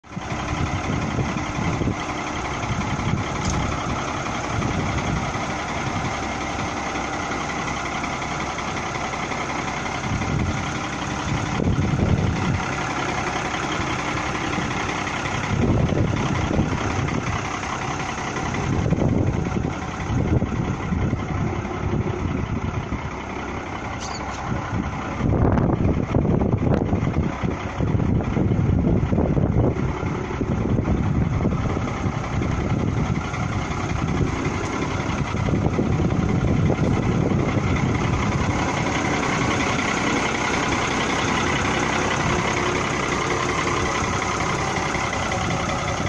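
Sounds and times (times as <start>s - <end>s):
diesel engine idling: 0.0s - 46.0s
wind buffeting microphone: 0.1s - 46.0s.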